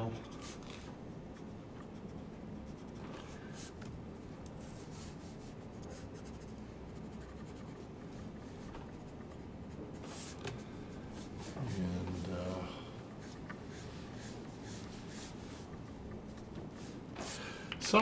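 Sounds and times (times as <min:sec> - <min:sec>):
low background hum: 0:00.0 - 0:18.0
marker scratching on paper: 0:00.2 - 0:03.8, 0:04.6 - 0:10.4, 0:11.1 - 0:12.5, 0:13.1 - 0:17.4.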